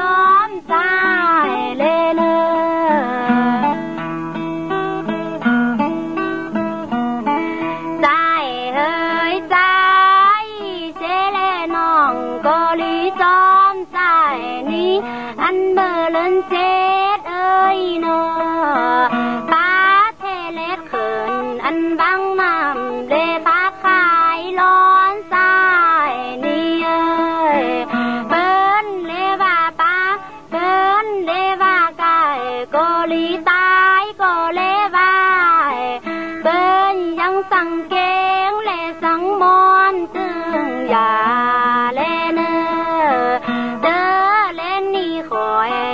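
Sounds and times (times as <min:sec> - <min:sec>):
plucked string accompaniment: 0:00.0 - 0:45.9
woman singing: 0:00.0 - 0:45.9.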